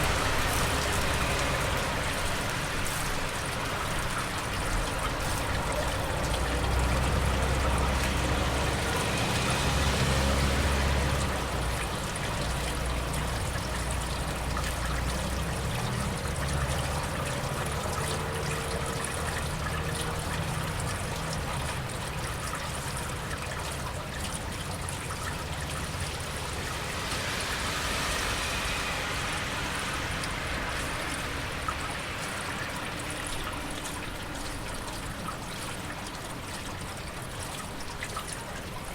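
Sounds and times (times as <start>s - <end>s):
steady rain: 0.0s - 38.9s
tyres hissing on wet road: 0.0s - 38.9s
water trickling: 0.0s - 38.9s.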